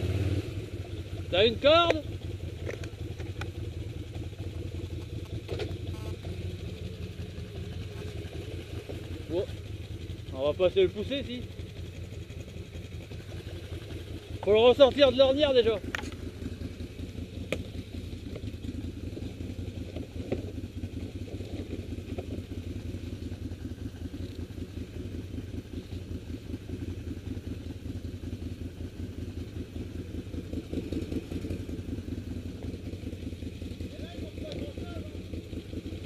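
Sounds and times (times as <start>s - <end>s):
atv engine running at low revs: 0.0s - 36.0s.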